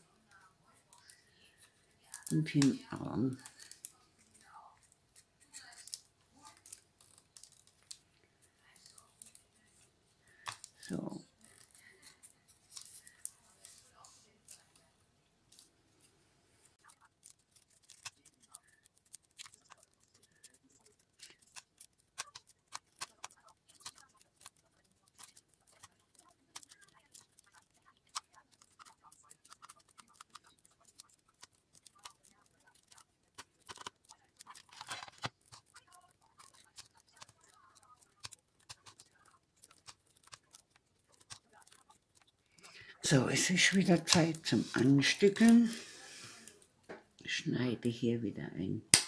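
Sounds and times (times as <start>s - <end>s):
paper clicks and crackles: 0.3s - 14.9s, 15.5s - 46.7s.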